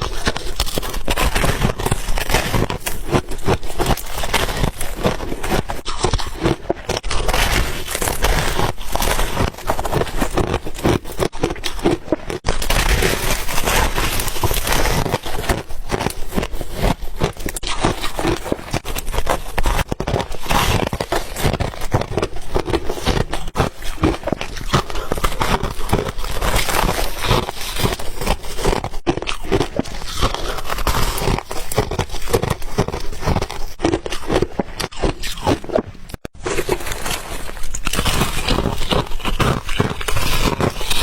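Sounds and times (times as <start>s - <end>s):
ice crunching in mouth: 0.0s - 41.0s.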